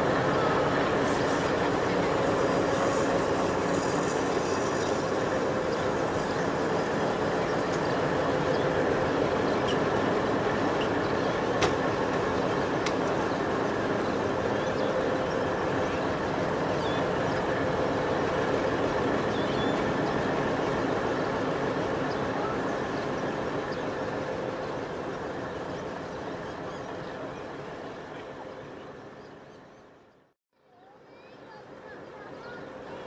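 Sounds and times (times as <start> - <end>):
diesel locomotive engine idling: 0.0 - 33.0.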